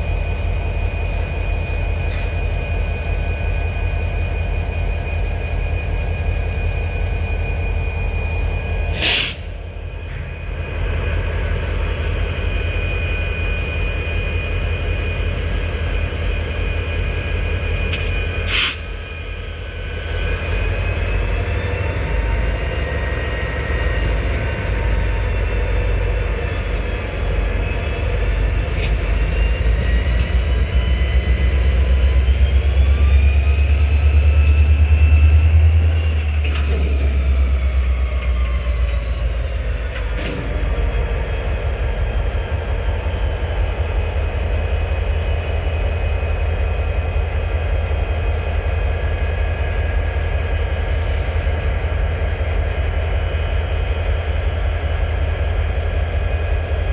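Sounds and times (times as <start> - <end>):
diesel locomotive engine rumbling: 0.0 - 56.9.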